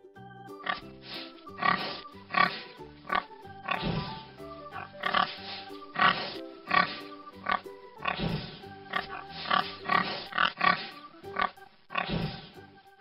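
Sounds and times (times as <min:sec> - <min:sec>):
background music: 0:00.0 - 0:13.0
pig grunting: 0:00.6 - 0:12.6.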